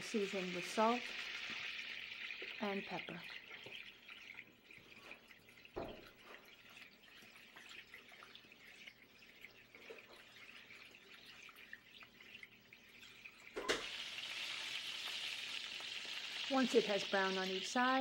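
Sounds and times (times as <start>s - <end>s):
meat sizzling in oil: 0.0s - 18.0s.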